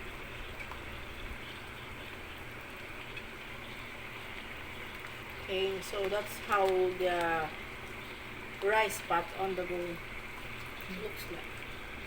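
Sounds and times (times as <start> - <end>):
rice pot bubbling and hissing: 0.0 - 12.0.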